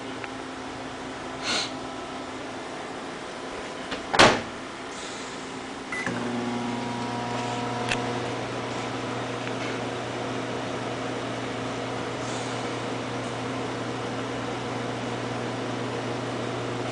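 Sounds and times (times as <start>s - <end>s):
microwave oven humming: 0.0s - 16.9s.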